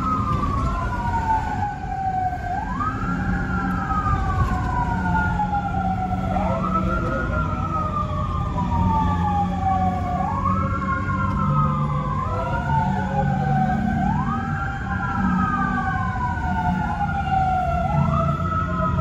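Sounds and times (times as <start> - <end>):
fire truck sirens wailing: 0.0 - 19.0
road hum: 0.0 - 19.0.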